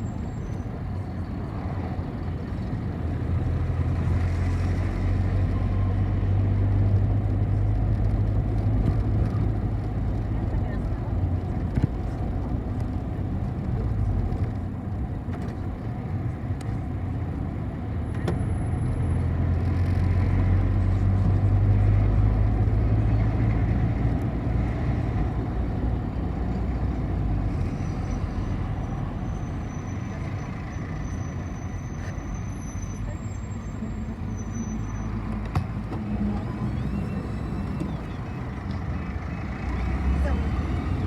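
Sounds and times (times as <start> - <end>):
bus engine and road noise: 0.0 - 41.0.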